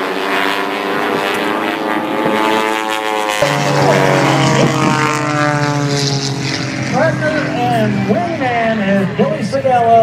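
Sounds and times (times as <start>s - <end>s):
lower engine note: 0.0s - 10.0s
propeller airplane engines droning: 0.0s - 10.0s.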